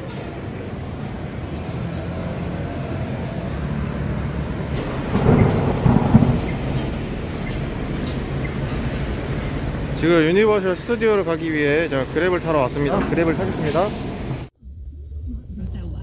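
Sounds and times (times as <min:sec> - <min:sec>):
street traffic rumble: 0:00.0 - 0:16.0
vehicle passing: 0:00.2 - 0:16.0.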